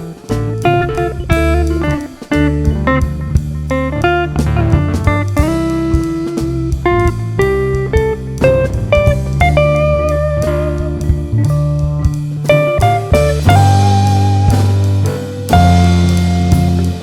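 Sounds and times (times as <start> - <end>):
bass: 0.0 - 17.0
drums with steady beat: 0.0 - 17.0
plucked guitar melody: 0.0 - 17.0.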